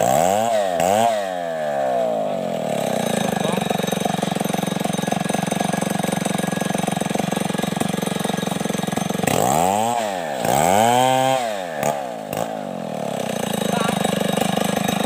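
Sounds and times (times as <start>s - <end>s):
chainsaw running: 0.0s - 15.0s.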